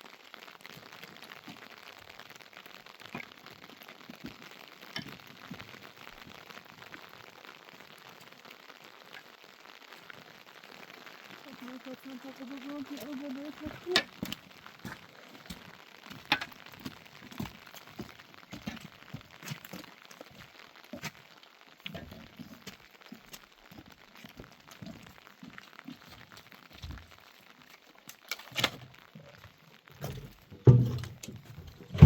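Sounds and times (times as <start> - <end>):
crinkling rustles: 0.0 - 32.0.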